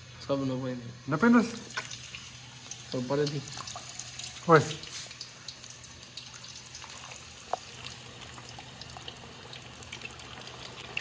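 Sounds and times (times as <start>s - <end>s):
fries sizzling in hot oil: 1.0s - 11.0s.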